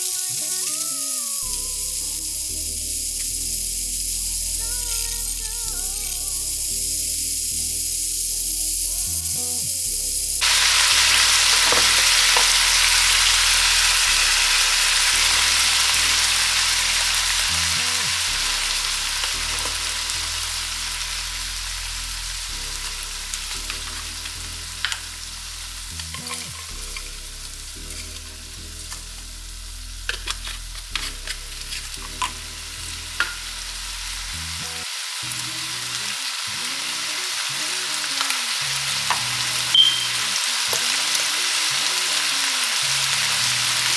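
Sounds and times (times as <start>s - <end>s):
background music: 0.0s - 43.9s
food sizzling in a hot pan: 0.0s - 43.9s.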